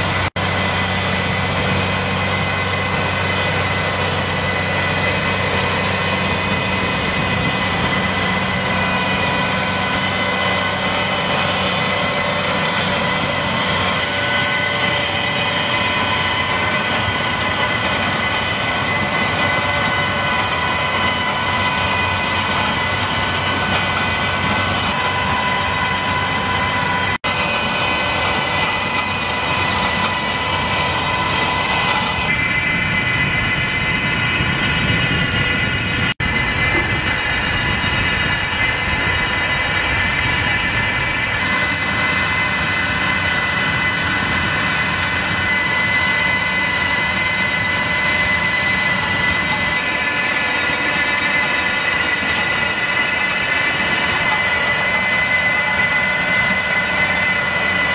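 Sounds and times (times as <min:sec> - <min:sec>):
high whine: 0:00.0 - 0:57.9
machinery rattling: 0:00.0 - 0:57.9
tractor mechanical drone: 0:00.0 - 0:57.9.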